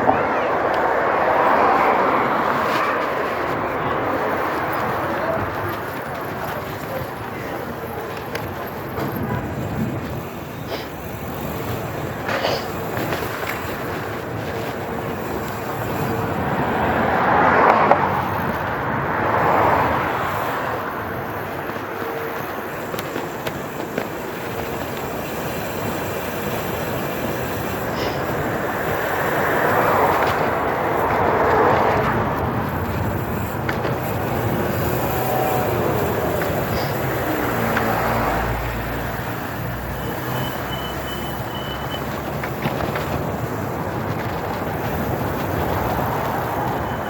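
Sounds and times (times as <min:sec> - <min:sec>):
wind over microphone: 0:00.0 - 0:39.9, 0:41.9 - 0:47.0
tyres rolling: 0:00.0 - 0:47.0.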